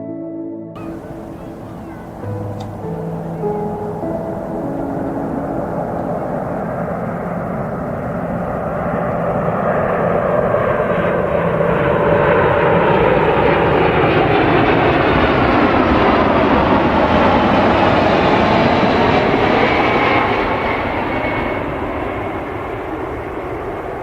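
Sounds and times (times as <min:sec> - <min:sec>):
airplane engine rushing: 0:00.8 - 0:24.0.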